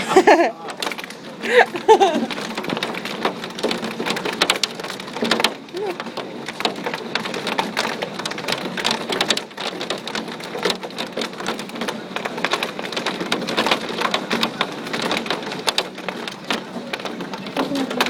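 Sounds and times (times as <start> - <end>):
hailstones clattering on hard surfaces: 0.1 - 18.0.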